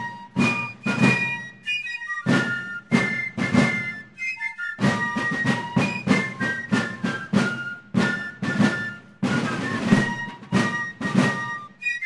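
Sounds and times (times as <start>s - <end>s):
field drums: 0.0s - 12.0s
fifes playing march melody: 0.0s - 12.0s.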